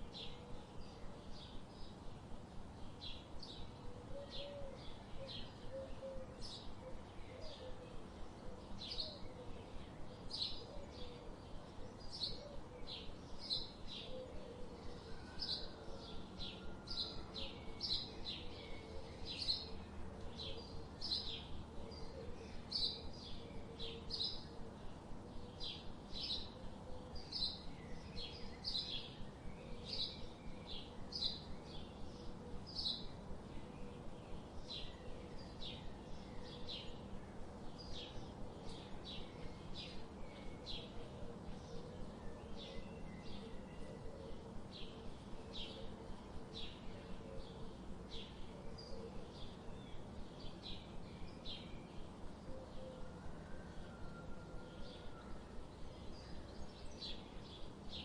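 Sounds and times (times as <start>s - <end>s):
small birds chirping: 0.0s - 53.2s, 54.9s - 58.0s
faint background hiss: 0.0s - 58.0s.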